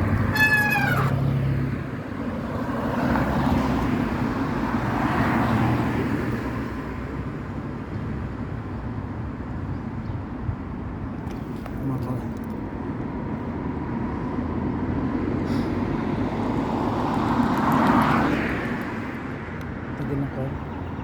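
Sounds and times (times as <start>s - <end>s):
motor vehicles passing: 0.0s - 21.0s.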